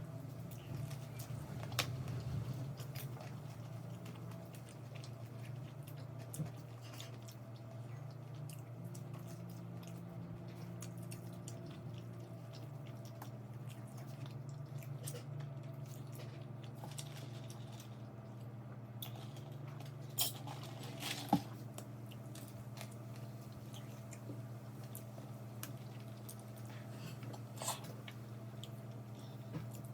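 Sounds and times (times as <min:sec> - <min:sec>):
low hum: 0:00.0 - 0:29.9
person chewing food: 0:00.1 - 0:29.9.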